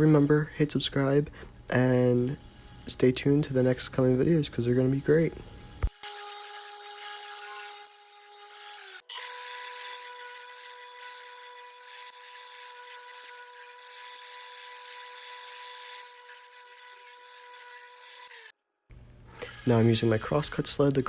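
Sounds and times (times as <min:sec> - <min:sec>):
power saw whining: 0:01.2 - 0:18.5.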